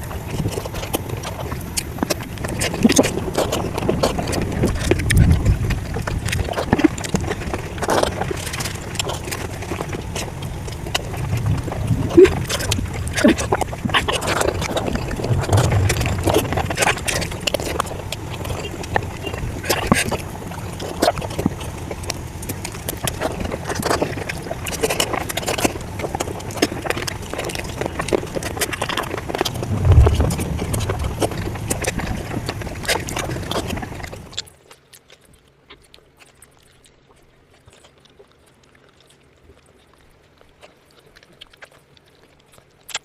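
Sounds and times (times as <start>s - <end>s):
wet chewing and lip smacking: 0.0s - 43.0s.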